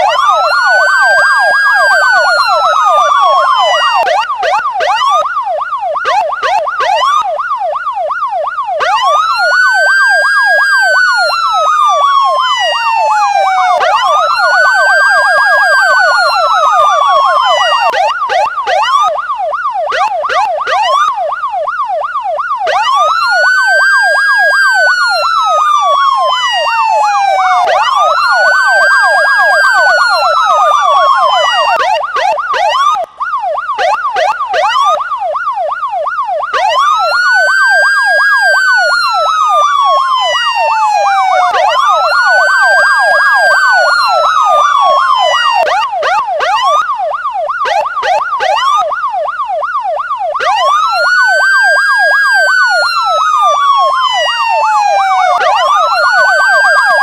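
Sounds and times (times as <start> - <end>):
police siren wailing: 0.0 - 57.0
siren rapid yelp: 0.0 - 57.0.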